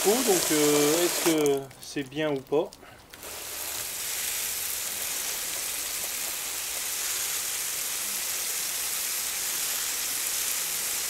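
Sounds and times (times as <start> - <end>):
hose spray hissing on gravel: 0.0 - 11.0.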